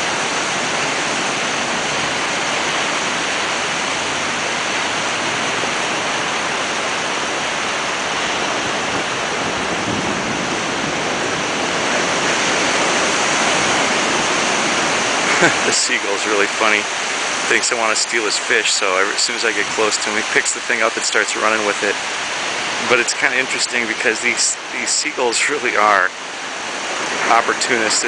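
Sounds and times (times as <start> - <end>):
ocean waves washing ashore: 0.0 - 28.0.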